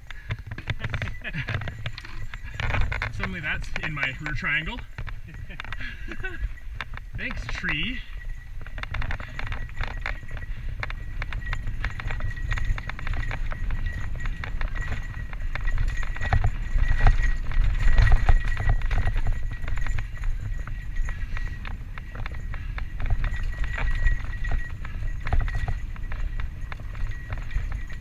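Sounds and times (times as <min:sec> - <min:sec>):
bike chain and frame clatter: 0:00.0 - 0:28.0
wind on microphone: 0:00.0 - 0:28.0.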